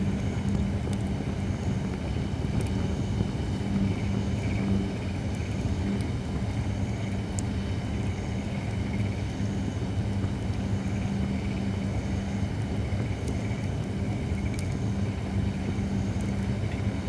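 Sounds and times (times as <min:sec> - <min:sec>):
low fire rumble: 0:00.0 - 0:17.0.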